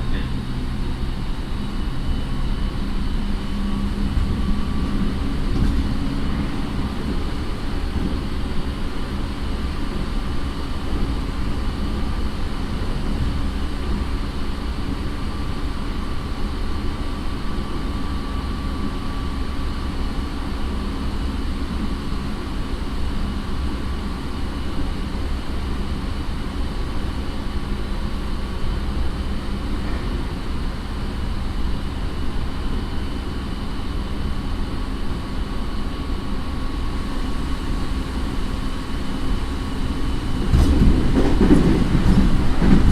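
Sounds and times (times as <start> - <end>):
train rolling rumble: 0.0 - 42.9.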